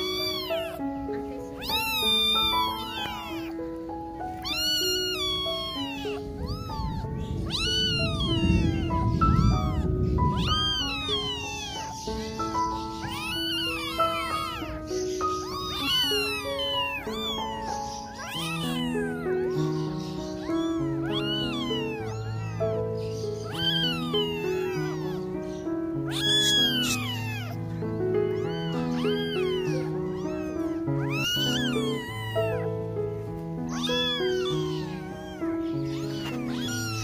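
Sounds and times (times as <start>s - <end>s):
kittens mewing: 0.0s - 37.0s.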